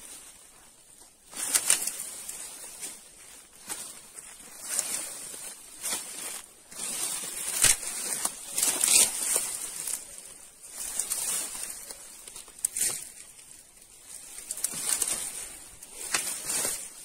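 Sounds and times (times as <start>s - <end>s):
dry leaves rustling and crackling: 0.0s - 17.0s
twigs snapping: 1.3s - 3.0s, 3.6s - 17.0s.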